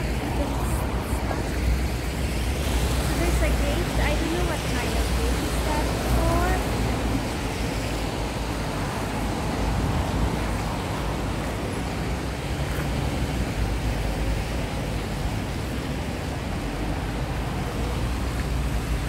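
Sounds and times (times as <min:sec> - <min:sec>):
cars on wet roads: 0:00.0 - 0:19.0.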